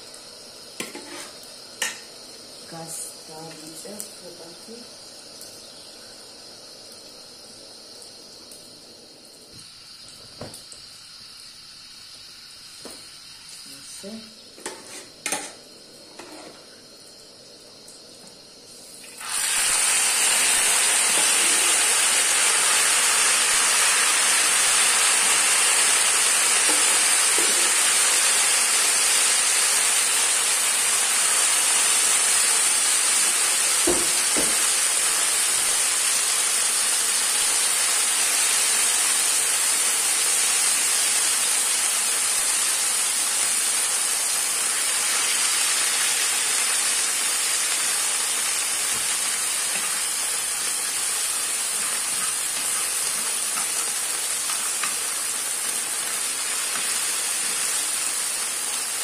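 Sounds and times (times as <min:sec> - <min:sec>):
rice sizzling in hot oil: 0:00.0 - 0:59.0.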